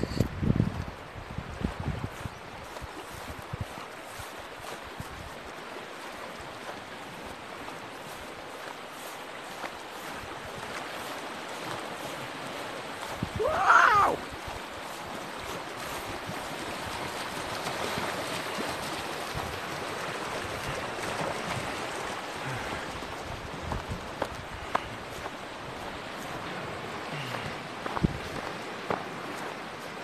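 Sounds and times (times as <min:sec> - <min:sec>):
river water rushing: 0:02.4 - 0:30.0.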